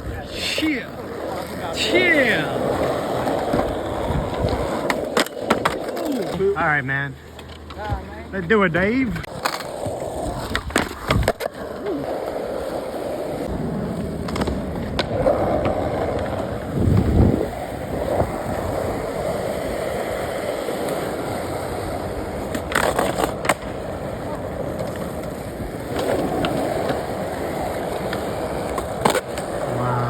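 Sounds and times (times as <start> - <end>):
skateboard wheels rolling on pavement: 0.0 - 30.0
skateboard deck clacks: 1.2 - 6.4, 7.2 - 29.8.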